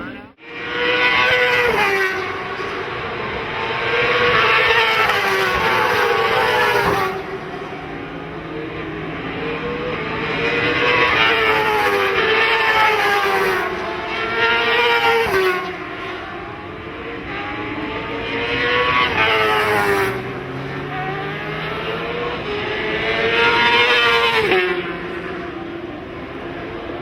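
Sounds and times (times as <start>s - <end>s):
racing motorcycles passing at speed: 0.4s - 27.0s.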